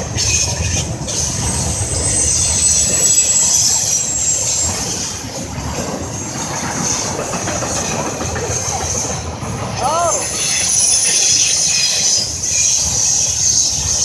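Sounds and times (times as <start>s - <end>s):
high thin wheel squeal: 0.0s - 9.1s, 9.8s - 14.0s
train wheels rumbling on rail: 0.0s - 14.0s.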